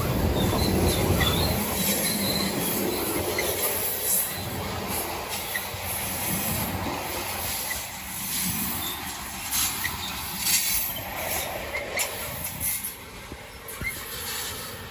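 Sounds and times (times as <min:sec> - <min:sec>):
freight cars rolling past: 0:00.0 - 0:14.9.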